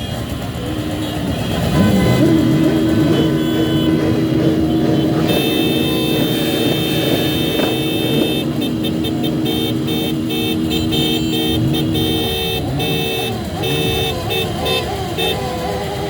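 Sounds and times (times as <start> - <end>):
traffic noise: 0.0 - 16.0
vehicle horns honking: 0.0 - 16.0.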